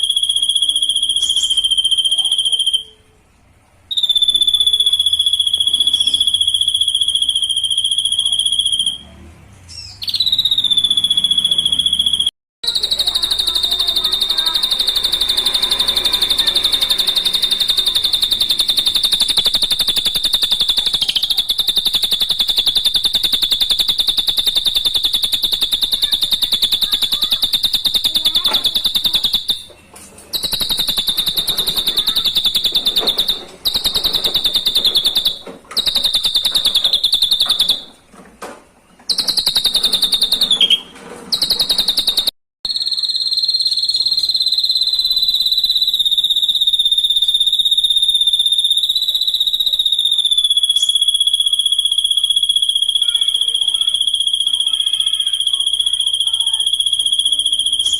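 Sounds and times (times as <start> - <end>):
bird rapid high trill: 0.0 - 3.2, 3.9 - 9.1, 9.7 - 38.0, 39.1 - 57.9.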